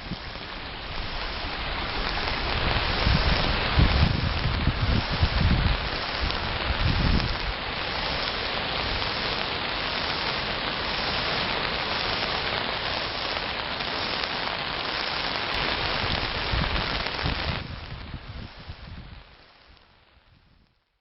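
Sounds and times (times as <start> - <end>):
storm water running: 0.0 - 19.7
heavy rain falling: 0.0 - 20.6.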